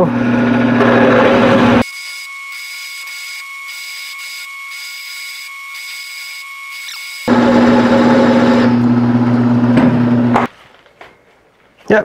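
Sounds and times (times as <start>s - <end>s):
milling machine cutting whine: 0.0s - 10.5s.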